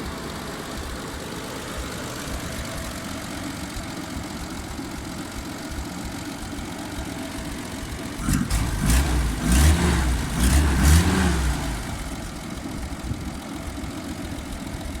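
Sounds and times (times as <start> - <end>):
engine idling and revving: 0.0 - 15.0.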